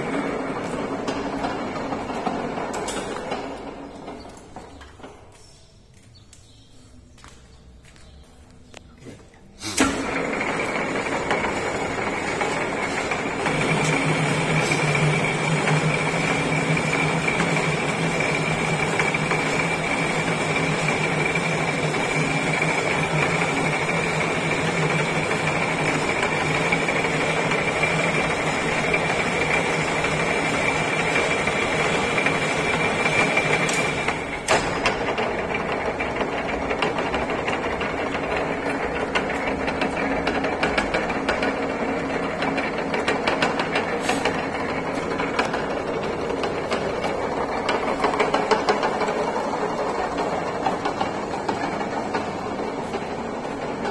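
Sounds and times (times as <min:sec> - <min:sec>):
metal lathe running: 0:00.0 - 0:04.3, 0:09.7 - 0:53.9.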